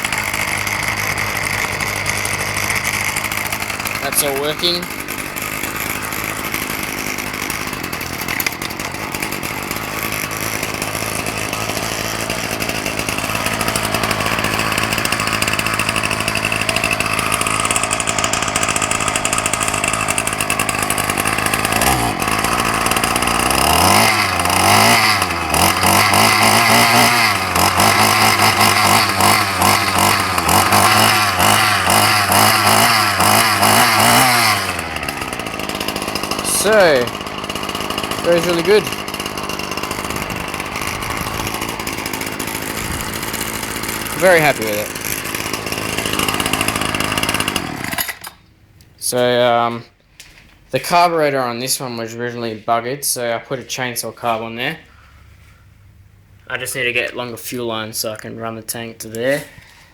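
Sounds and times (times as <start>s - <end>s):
two-stroke trimmer engine revving: 0.0s - 49.8s.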